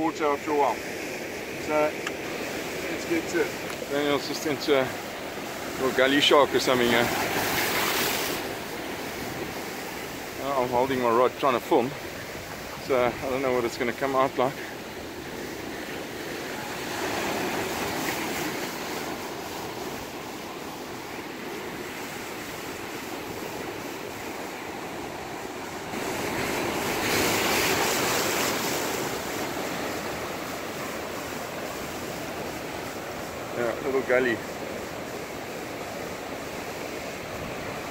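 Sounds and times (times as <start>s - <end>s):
sea surf washing over rocks: 0.0s - 37.9s.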